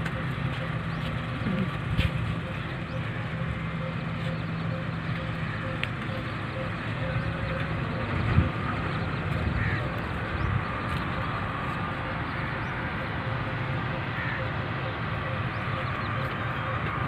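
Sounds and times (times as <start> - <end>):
low engine-like hum: 0.0 - 17.0
outdoor background noise: 0.0 - 17.0.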